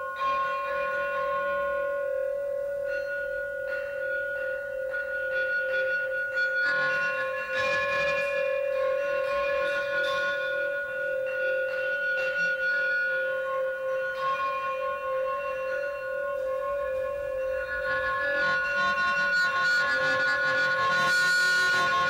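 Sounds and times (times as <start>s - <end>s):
metal rods ringing bell-like: 0.0s - 22.0s.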